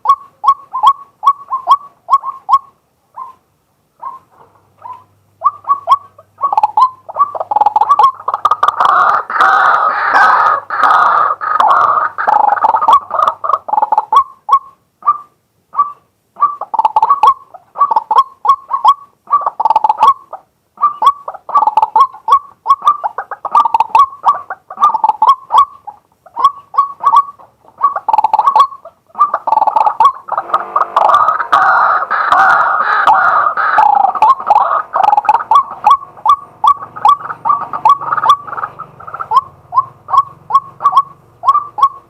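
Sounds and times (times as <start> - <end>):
waterhen calling loudly: 4.0 - 42.0.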